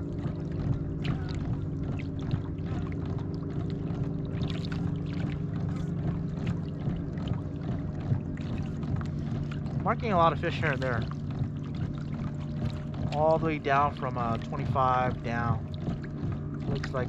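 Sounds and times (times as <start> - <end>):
boat motor humming: 0.0 - 17.0
water splashes: 0.0 - 17.0.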